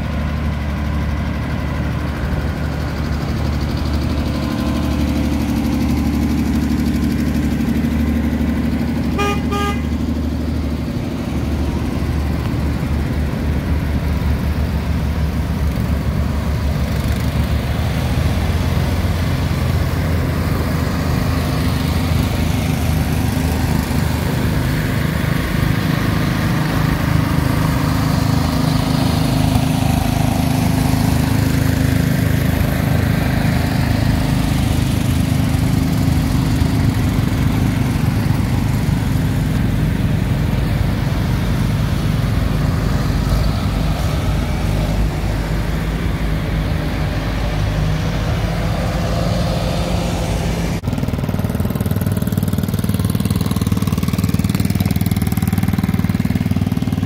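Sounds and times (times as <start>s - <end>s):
small tractor engines running: 0.0s - 57.0s.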